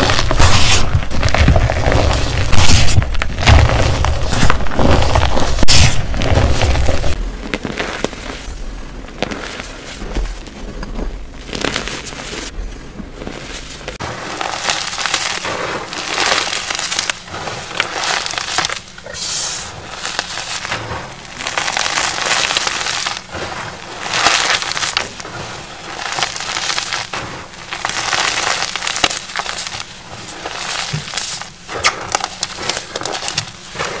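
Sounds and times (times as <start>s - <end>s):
hands crunching powder: 0.0s - 34.0s.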